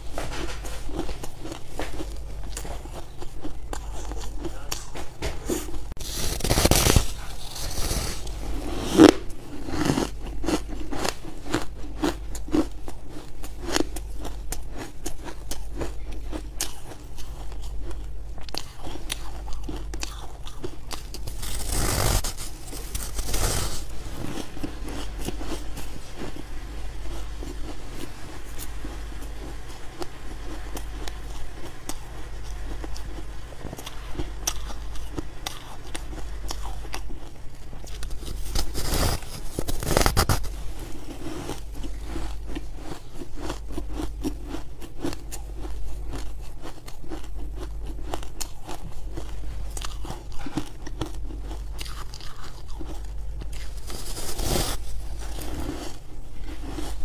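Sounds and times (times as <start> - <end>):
ice being chewed: 0.3 - 57.0.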